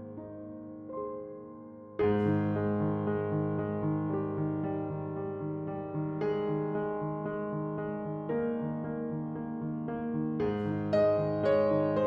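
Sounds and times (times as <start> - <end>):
calm piano music: 0.0 - 12.0.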